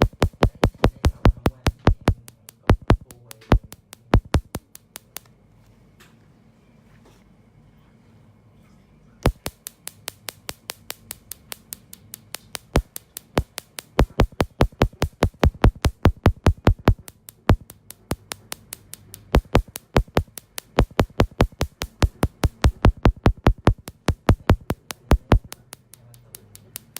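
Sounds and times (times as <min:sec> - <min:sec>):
laser handpiece snapping clicks: 0:00.0 - 0:05.3, 0:09.2 - 0:26.9.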